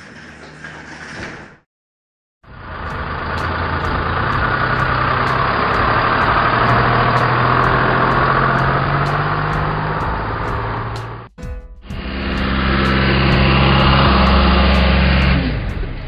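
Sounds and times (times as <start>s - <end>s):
truck engine driving past: 2.4s - 16.0s.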